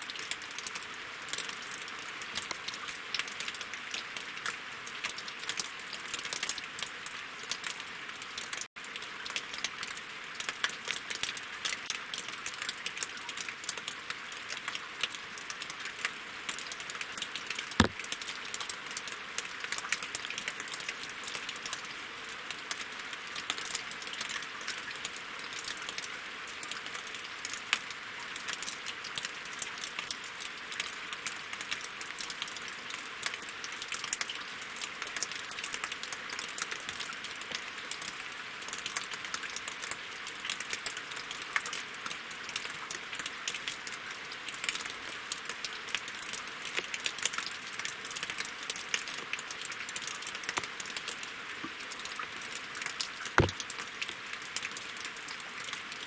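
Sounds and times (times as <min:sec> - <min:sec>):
rain on water and logs: 0:00.0 - 0:56.0.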